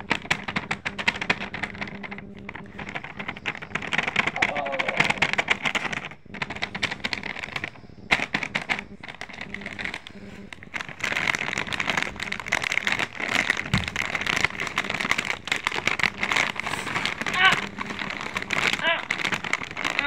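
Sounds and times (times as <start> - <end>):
plastic chip packets crinkling: 0.0 - 20.0.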